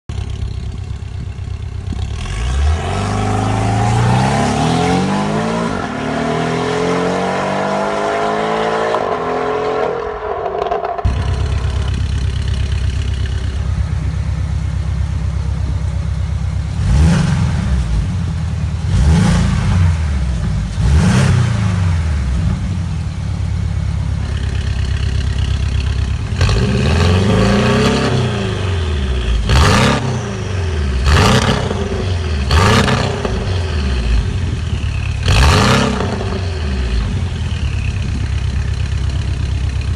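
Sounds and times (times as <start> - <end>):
car engine idling: 0.0 - 2.7, 8.9 - 21.0, 21.6 - 39.9
car engine revving: 1.8 - 14.6, 16.6 - 39.9.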